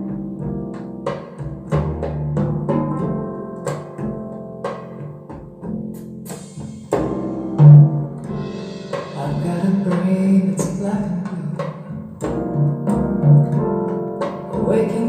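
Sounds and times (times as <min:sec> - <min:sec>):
drum hits: 0:00.0 - 0:15.0
instrumental music over speakers: 0:00.0 - 0:15.0.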